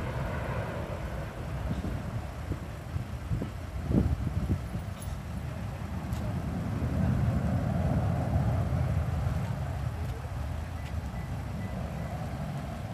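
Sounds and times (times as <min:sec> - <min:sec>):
distant jet engines rumble: 0:00.0 - 0:12.9.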